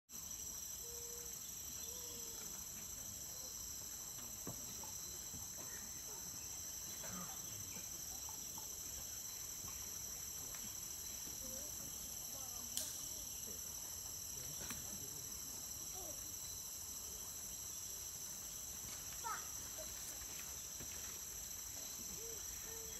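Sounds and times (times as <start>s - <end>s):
chorus of insects: 0.1s - 22.9s.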